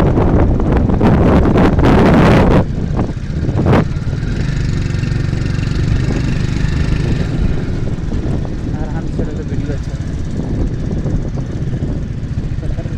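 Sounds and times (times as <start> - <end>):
engine running steadily: 0.0 - 12.9
wind buffeting microphone: 0.0 - 12.9.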